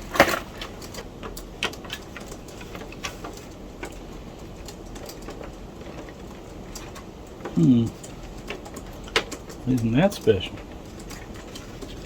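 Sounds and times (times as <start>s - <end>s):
computer parts clicking and tapping: 0.0s - 12.0s.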